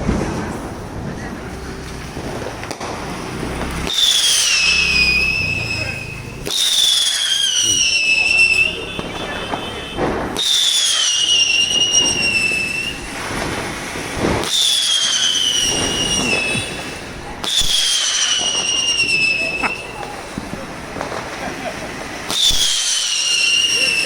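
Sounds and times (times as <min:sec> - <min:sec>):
firecracker whistles sliding down: 0:00.3 - 0:24.0
fizzing crackle: 0:01.3 - 0:24.0.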